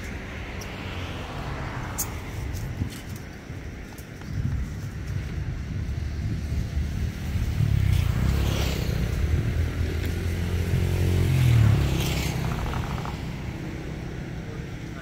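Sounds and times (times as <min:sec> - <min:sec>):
passing vehicle engine hum: 0:00.0 - 0:15.0.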